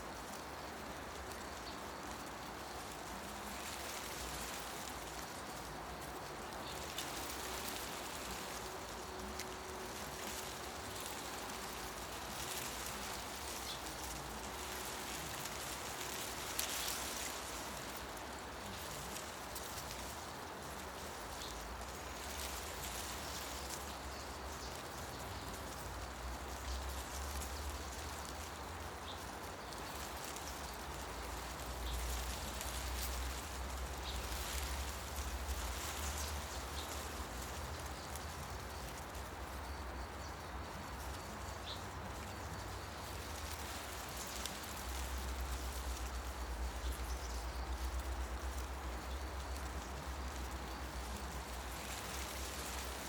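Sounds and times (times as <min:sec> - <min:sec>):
wind rustling leaves: 0:00.0 - 0:53.0.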